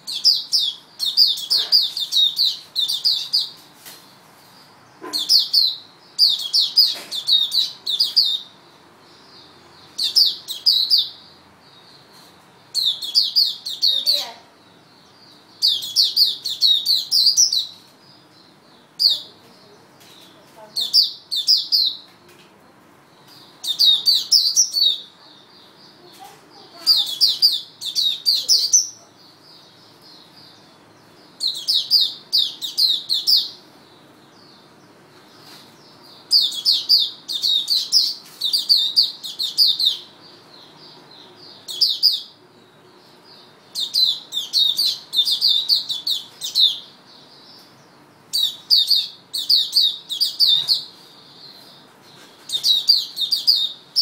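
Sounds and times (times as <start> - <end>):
bird singing high chirps: 0.0 - 3.6, 4.6 - 22.1, 23.1 - 54.0.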